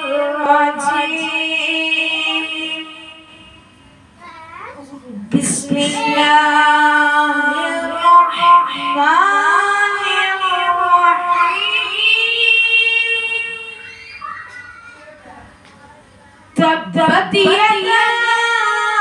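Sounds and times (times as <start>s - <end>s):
boy reciting in melodic chant: 0.0s - 19.0s.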